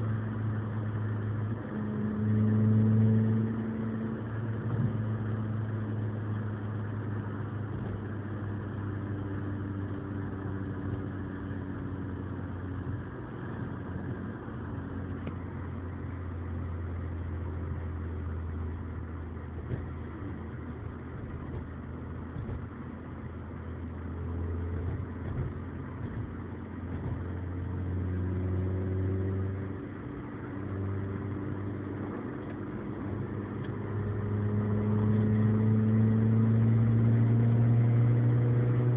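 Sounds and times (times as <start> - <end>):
car engine drone from inside cabin: 0.0 - 38.9.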